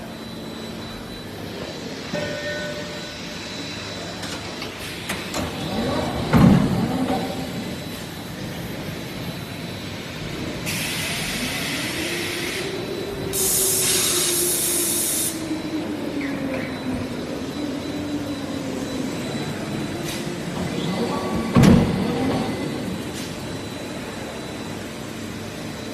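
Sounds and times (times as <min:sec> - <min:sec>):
machinery droning: 0:00.0 - 0:25.9.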